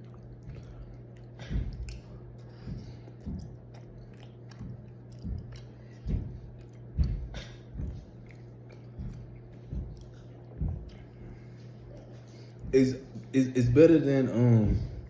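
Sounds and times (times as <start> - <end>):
person chewing wetly: 0.0 - 12.8.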